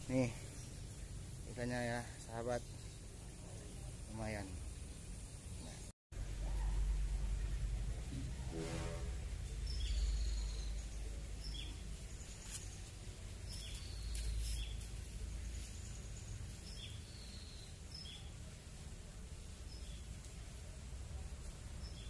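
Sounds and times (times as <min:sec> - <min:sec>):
small birds chirping: 0:00.0 - 0:07.6, 0:09.4 - 0:22.0
steady low rumble: 0:00.0 - 0:21.9.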